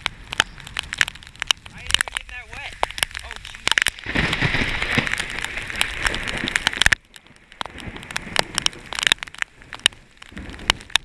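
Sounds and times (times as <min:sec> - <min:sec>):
raindrops striking camera: 0:00.0 - 0:11.0
torrential rain hiss: 0:00.0 - 0:11.0.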